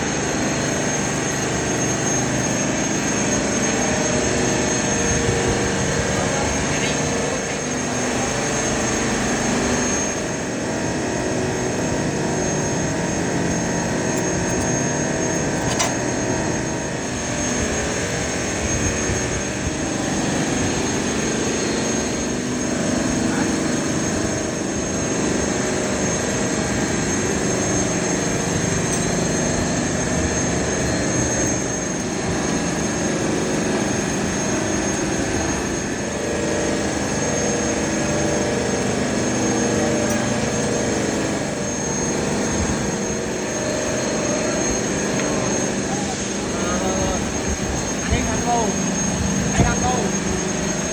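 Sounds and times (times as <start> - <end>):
heavy machinery drone: 0.0 - 50.9.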